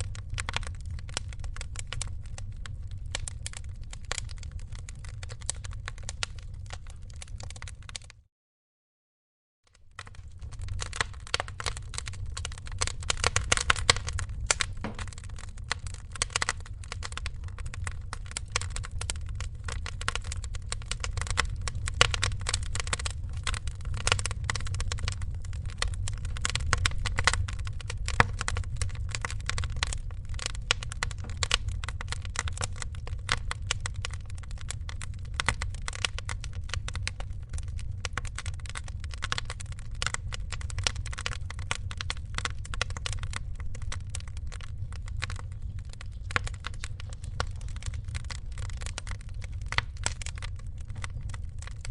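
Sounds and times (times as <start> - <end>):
low rumble of flames: 0.0 - 8.2, 9.7 - 51.9
wood fire crackling and popping: 0.0 - 8.2, 9.7 - 51.9.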